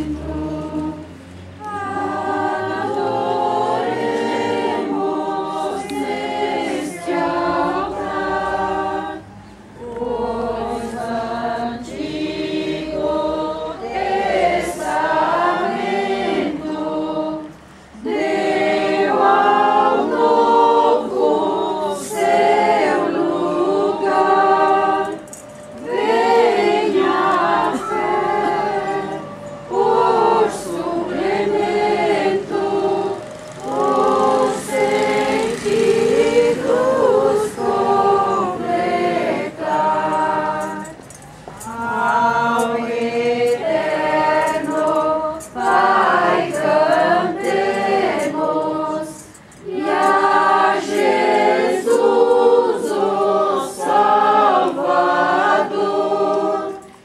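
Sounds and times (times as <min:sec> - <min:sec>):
group singing a hymn: 0:00.0 - 0:57.0.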